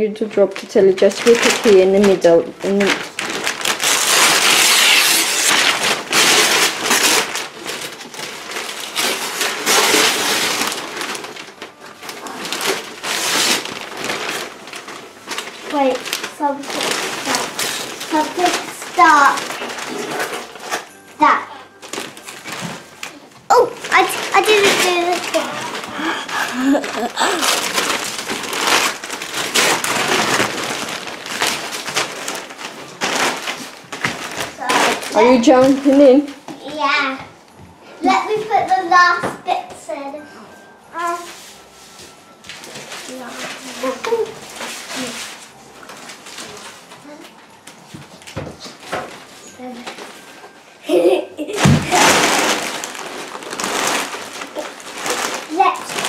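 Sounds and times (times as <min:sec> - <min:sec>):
wrapping paper tearing: 0:00.0 - 0:36.4, 0:41.0 - 0:56.0.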